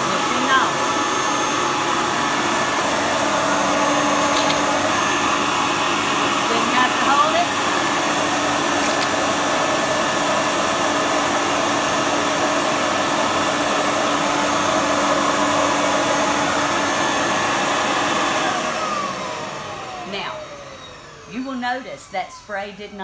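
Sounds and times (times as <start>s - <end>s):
carpet cleaner motor whine: 0.0s - 23.0s.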